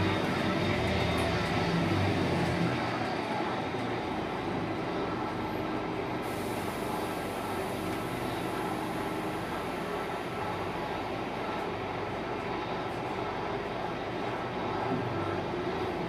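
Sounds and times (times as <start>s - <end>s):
bus diesel engine drone: 0.0s - 16.0s
road noise: 0.0s - 16.0s.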